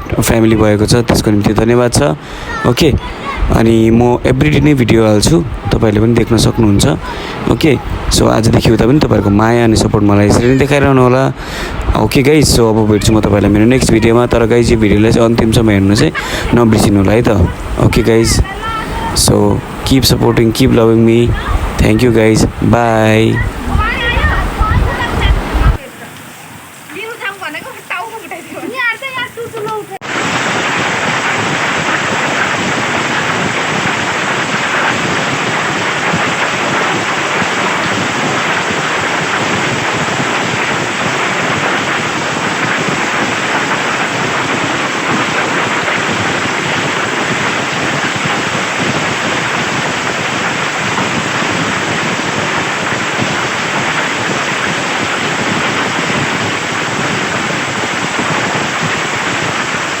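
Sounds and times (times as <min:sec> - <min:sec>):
heavy rain and hail: 0:00.0 - 1:00.0.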